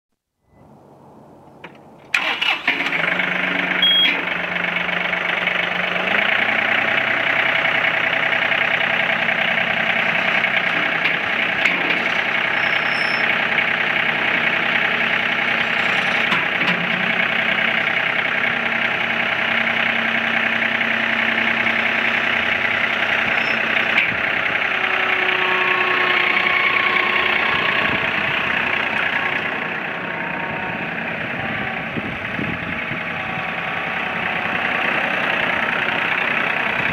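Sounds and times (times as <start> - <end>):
tractor diesel engine running: 0.6 - 36.9.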